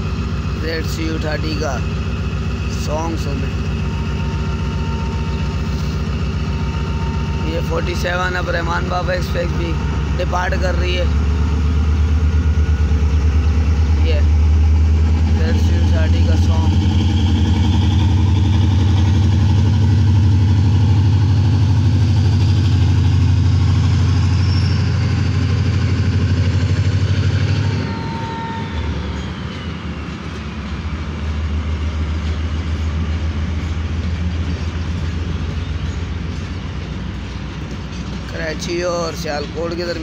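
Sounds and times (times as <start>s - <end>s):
locomotive engine throb: 0.0s - 40.0s
train running: 0.0s - 40.0s.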